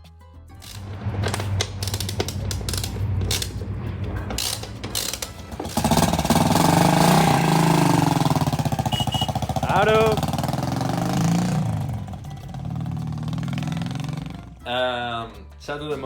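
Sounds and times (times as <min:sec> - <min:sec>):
mechanical clattering and ratcheting: 0:00.6 - 0:14.4
motorcycle engine running: 0:00.6 - 0:14.7.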